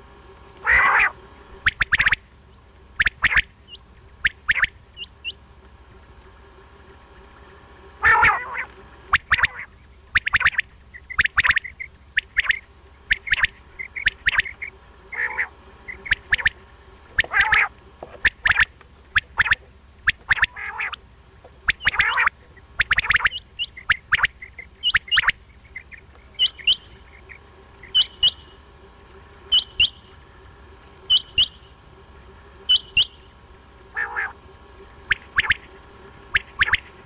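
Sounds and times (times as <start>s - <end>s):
quail calls: 0.6s - 2.3s, 3.0s - 5.4s, 8.0s - 28.6s, 29.4s - 30.3s, 31.0s - 31.8s, 32.6s - 37.0s.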